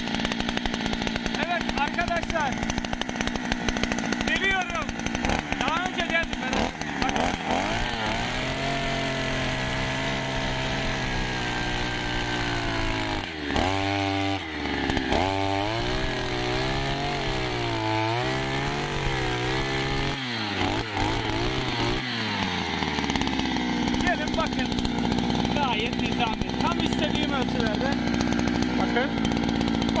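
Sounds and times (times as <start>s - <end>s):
earth auger engine running hard: 0.0s - 30.0s.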